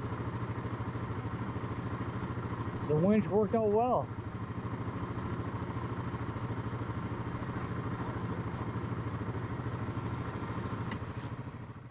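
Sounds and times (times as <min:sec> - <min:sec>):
atv engine idling: 0:00.0 - 0:11.9.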